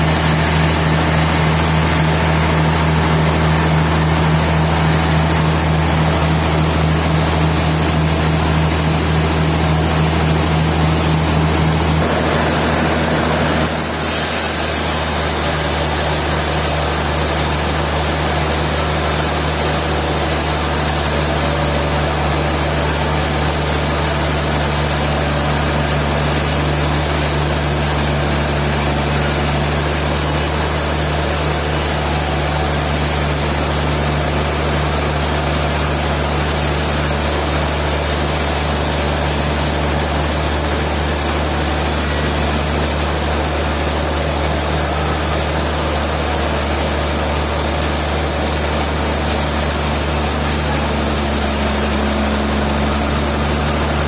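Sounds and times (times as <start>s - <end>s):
sawmill machinery humming: 0.0s - 54.0s.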